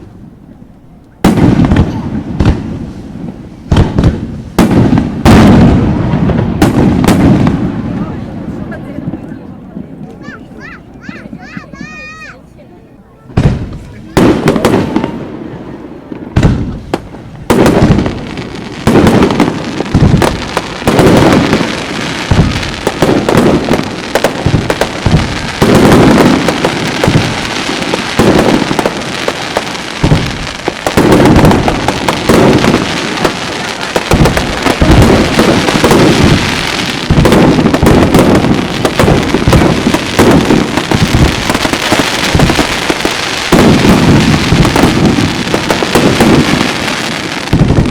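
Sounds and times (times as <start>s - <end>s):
fireworks banging: 0.0s - 47.9s.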